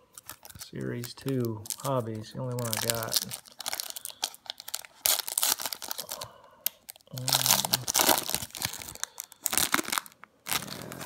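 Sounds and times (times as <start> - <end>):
plastic wrapper crinkling and tearing: 0.0 - 11.0.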